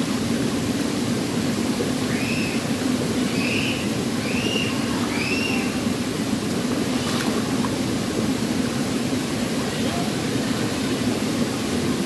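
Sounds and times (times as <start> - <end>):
waterfall rushing into rock pool: 0.0 - 12.0.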